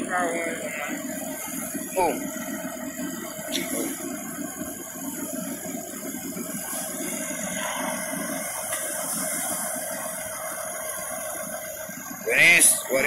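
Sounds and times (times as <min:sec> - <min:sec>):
constant hiss: 0:00.0 - 0:13.0
fire engine running: 0:00.0 - 0:13.0.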